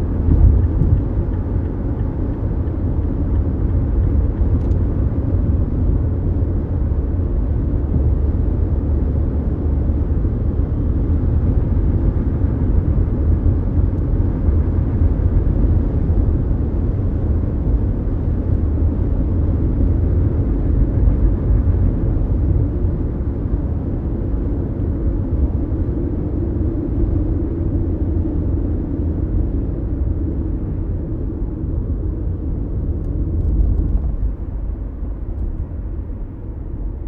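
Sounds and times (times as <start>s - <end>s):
road and engine rumble: 0.0s - 37.0s.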